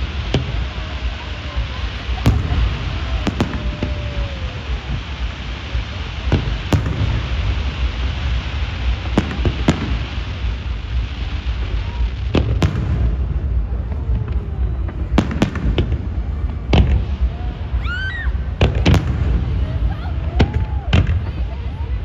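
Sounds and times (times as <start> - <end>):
fireworks bangs: 0.0 - 22.0
low rumble: 0.0 - 22.0.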